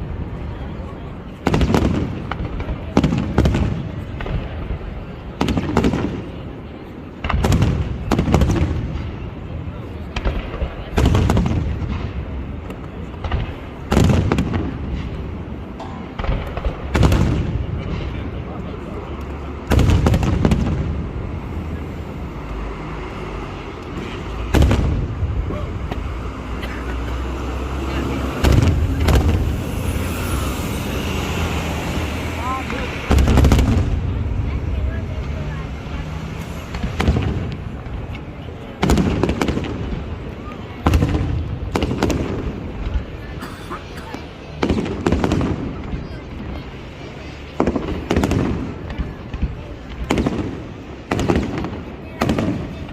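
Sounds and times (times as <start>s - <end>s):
fireworks bursting with bangs: 0.0s - 52.9s
small firework cracks: 0.3s - 22.6s, 23.2s - 52.9s.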